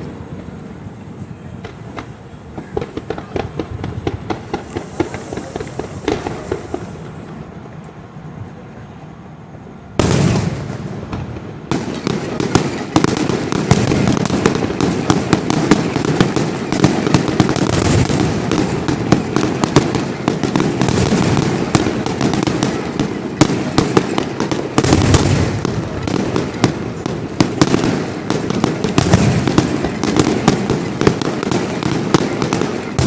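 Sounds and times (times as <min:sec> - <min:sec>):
constant rumble: 0:00.0 - 0:33.0
fireworks bangs and crackles: 0:00.0 - 0:33.0
heavy firework booms: 0:01.6 - 0:07.2, 0:10.0 - 0:33.0.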